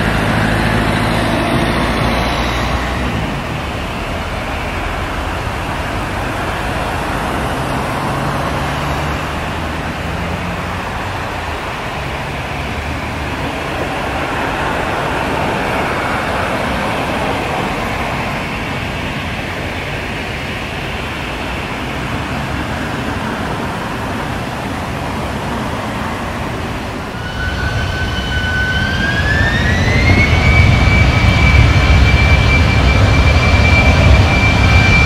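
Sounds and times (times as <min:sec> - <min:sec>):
jet engine rushing: 0:00.0 - 0:35.0.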